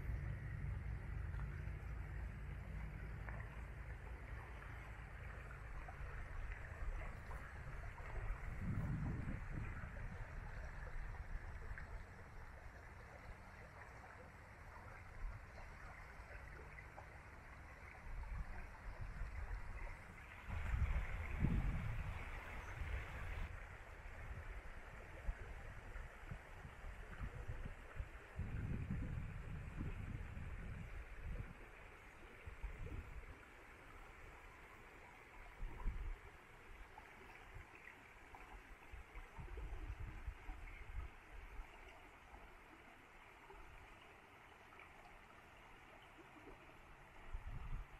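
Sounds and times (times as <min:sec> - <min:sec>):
wind rumble on microphone: 0:00.0 - 0:34.0, 0:35.4 - 0:42.4, 0:46.4 - 0:47.9
river trickling over cobbles: 0:00.0 - 0:47.9.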